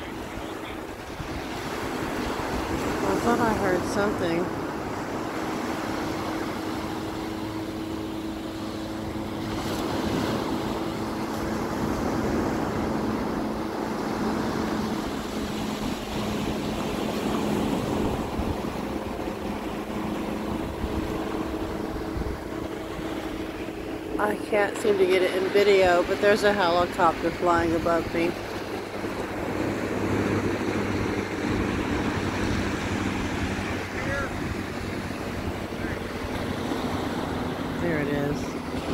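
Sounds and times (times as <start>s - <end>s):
helicopter drone overhead: 0.0s - 38.9s
surf washing on beach: 0.0s - 38.9s.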